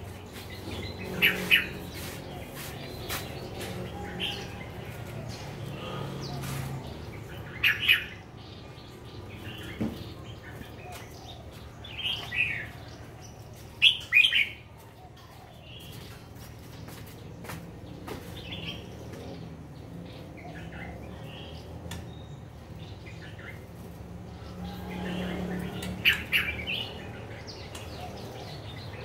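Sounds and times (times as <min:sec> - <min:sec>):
bird chirping: 0:00.0 - 0:14.6, 0:15.2 - 0:29.0.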